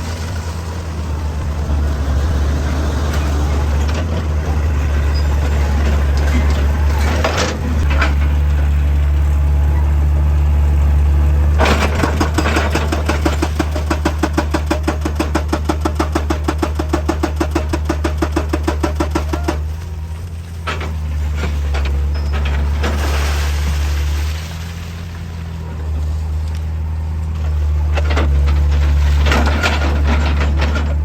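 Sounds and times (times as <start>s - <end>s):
excavator engine droning: 0.0s - 31.0s.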